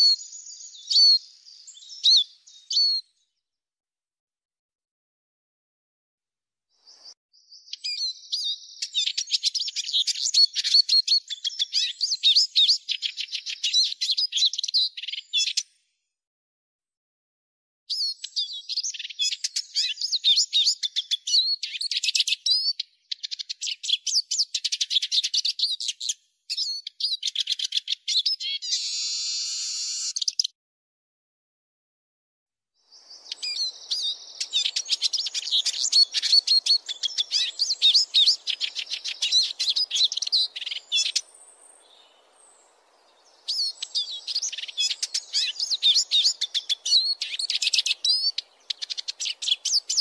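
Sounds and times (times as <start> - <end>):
bird twittering song: 0.0 - 3.3, 6.8 - 15.8, 17.9 - 30.5, 32.8 - 50.0.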